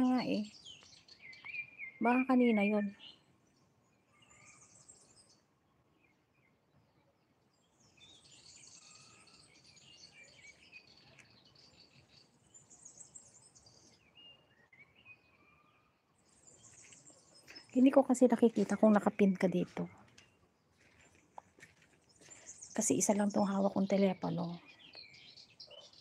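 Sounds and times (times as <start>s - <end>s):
small birds chirping and trilling: 0.0s - 26.0s.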